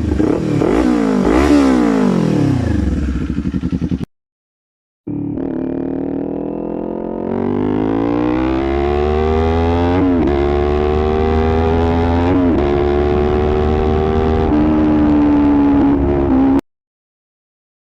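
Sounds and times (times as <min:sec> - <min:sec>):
motorcycle engine accelerating: 0:00.0 - 0:04.1, 0:05.1 - 0:16.6.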